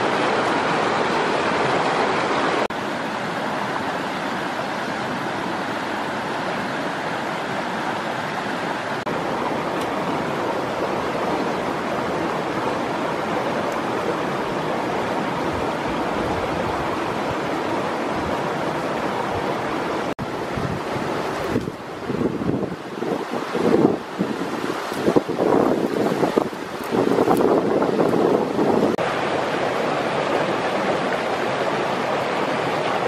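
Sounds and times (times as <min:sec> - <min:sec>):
stream water over rocks: 0:00.0 - 0:33.0.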